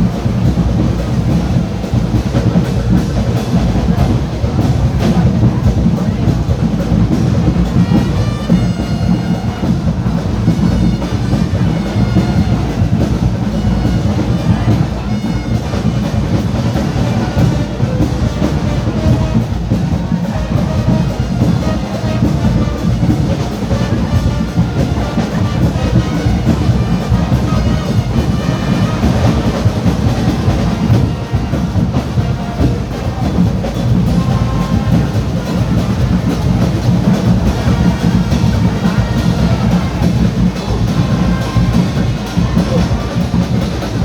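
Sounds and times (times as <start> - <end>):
carnival music with drums: 0.0 - 44.0.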